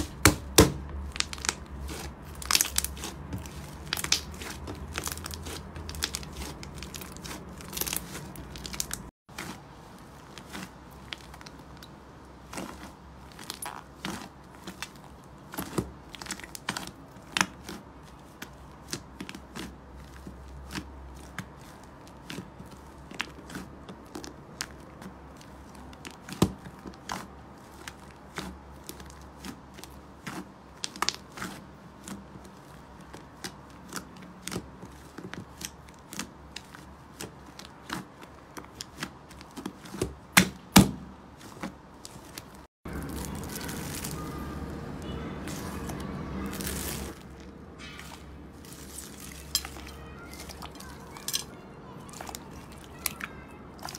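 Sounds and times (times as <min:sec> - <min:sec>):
slime crackling and popping: 0:00.0 - 0:11.8, 0:12.4 - 0:53.9.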